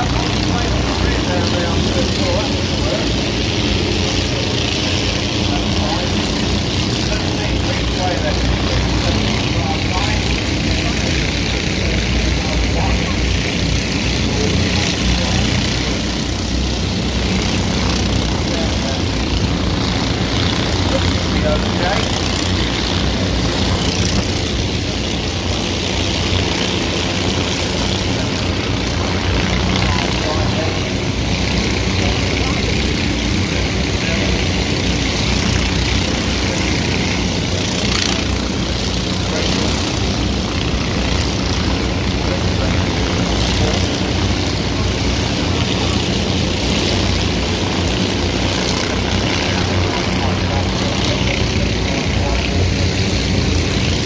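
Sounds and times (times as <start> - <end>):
racing engines droning: 0.0 - 54.0.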